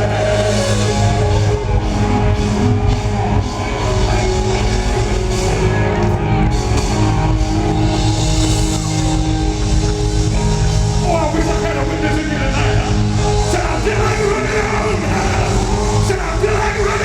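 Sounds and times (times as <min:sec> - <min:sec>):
live band through loud pa: 0:00.0 - 0:17.0.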